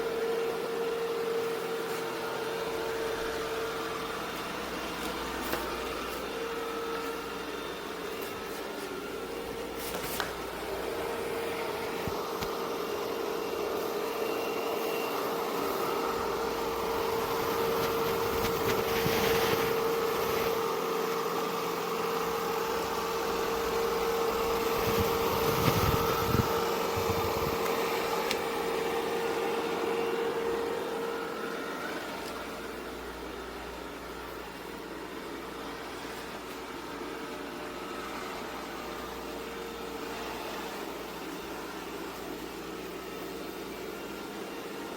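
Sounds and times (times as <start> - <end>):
robot vacuum running: 0.0 - 44.9.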